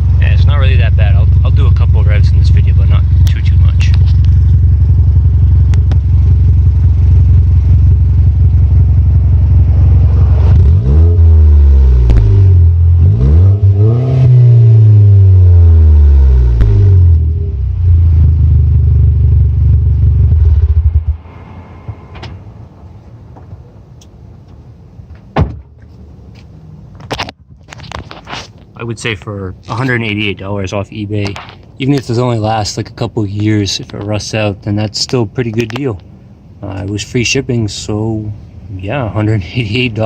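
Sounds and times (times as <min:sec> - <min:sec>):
car exhaust idling and revving: 0:00.0 - 0:25.1, 0:31.2 - 0:40.0.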